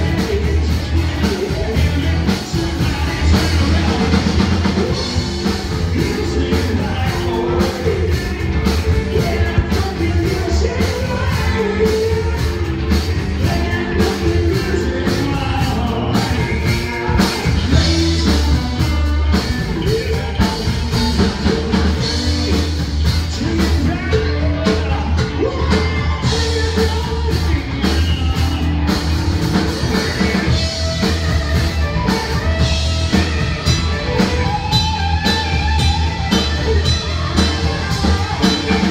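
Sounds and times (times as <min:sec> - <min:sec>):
bass guitar: 0:00.0 - 0:38.9
drums: 0:00.0 - 0:38.9
electric guitar: 0:00.0 - 0:38.9
live rock band playing: 0:00.0 - 0:38.9
person singing: 0:00.0 - 0:38.9.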